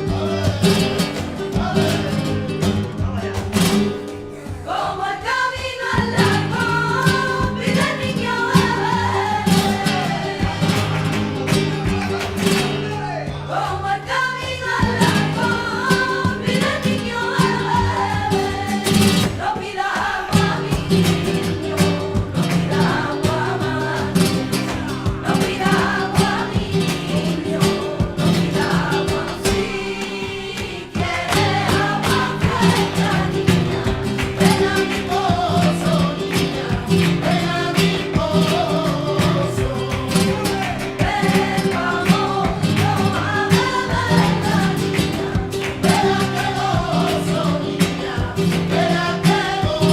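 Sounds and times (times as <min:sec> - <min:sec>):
rhythmic guitar: 0:00.0 - 0:49.9
voices singing: 0:00.0 - 0:49.9.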